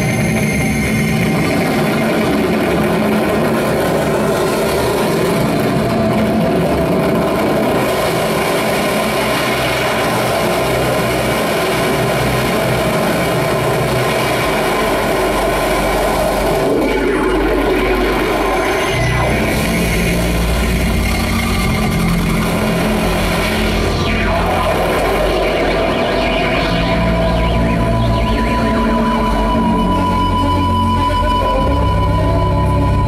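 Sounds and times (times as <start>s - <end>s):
deep low rumble: 0.0s - 33.0s
electric guitar through effects: 0.0s - 33.0s
electronic noise drone: 0.0s - 33.0s.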